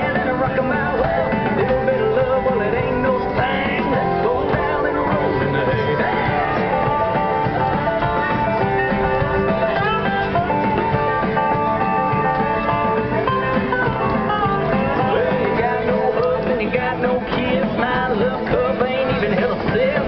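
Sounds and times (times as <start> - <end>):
country music over loudspeaker: 0.0 - 20.0.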